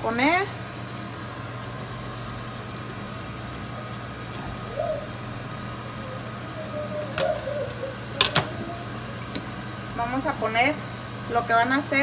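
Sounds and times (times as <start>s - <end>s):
kitchen hum: 0.0s - 12.0s.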